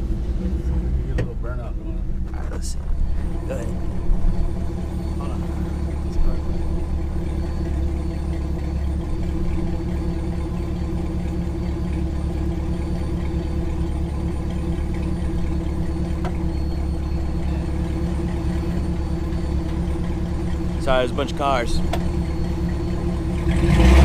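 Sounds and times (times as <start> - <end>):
pickup truck engine idling: 0.0 - 24.0.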